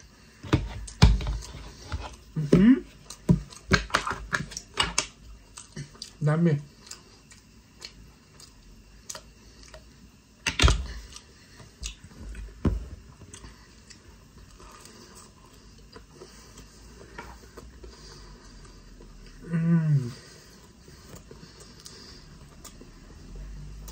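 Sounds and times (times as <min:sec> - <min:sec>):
person chewing: 0:00.8 - 0:10.2, 0:10.8 - 0:23.9.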